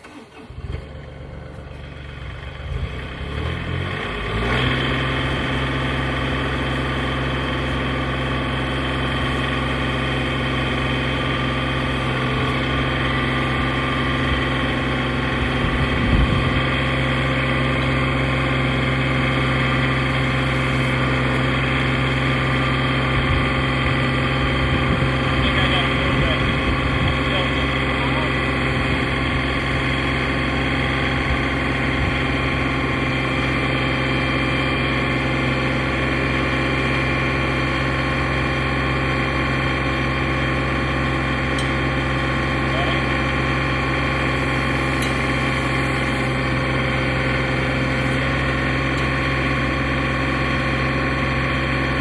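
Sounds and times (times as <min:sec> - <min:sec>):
sawmill engine running: 0:00.0 - 0:52.0.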